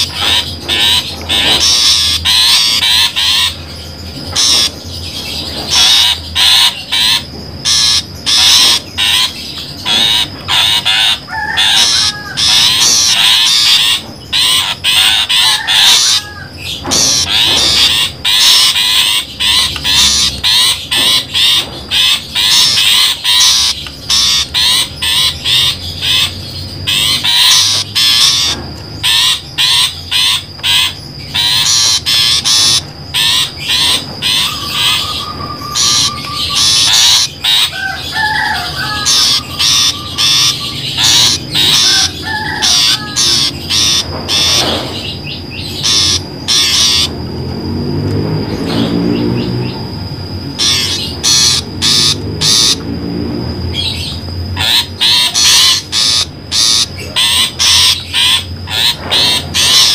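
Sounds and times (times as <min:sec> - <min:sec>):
bird chattering calls: 0:00.0 - 0:59.9.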